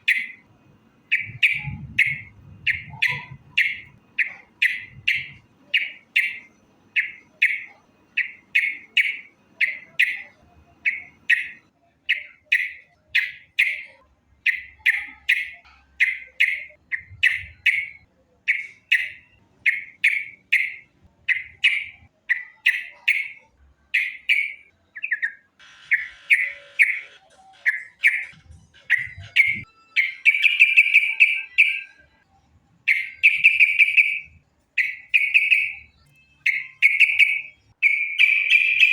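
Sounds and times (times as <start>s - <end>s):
bird chirping and chattering: 0.0s - 32.2s, 32.8s - 38.9s.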